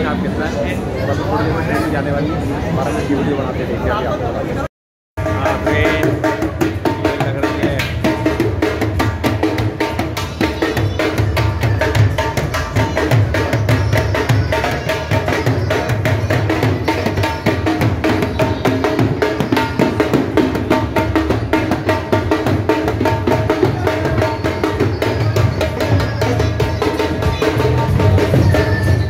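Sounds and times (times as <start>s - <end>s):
dhol drumming: 5.2s - 29.0s.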